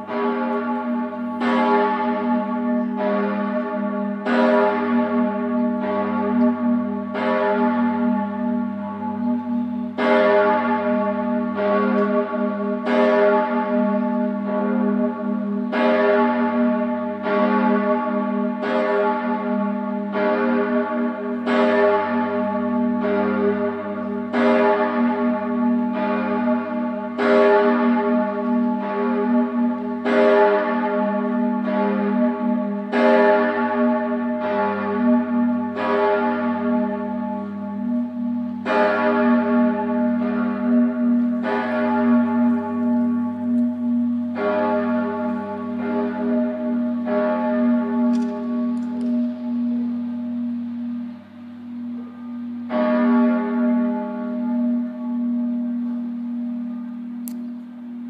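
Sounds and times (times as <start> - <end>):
large bell tolling: 0.0 - 58.0.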